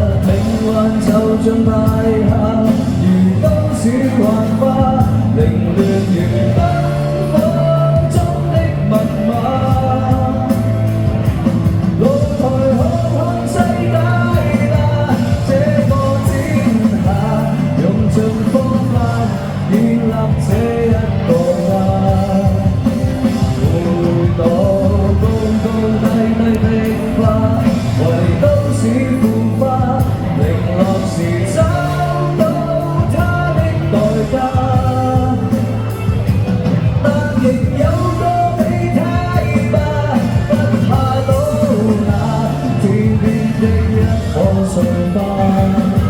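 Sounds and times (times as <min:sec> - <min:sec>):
pop-rock song with band: 0:00.0 - 0:46.0.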